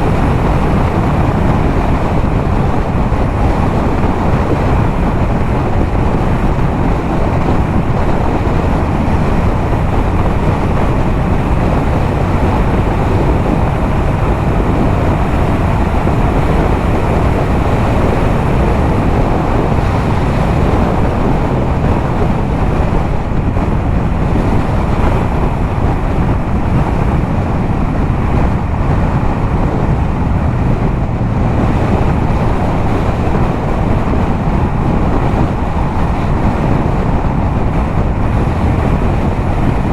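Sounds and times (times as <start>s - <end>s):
motorcycle engine at speed: 0.0s - 39.9s
wind rushing over microphone: 0.0s - 39.9s.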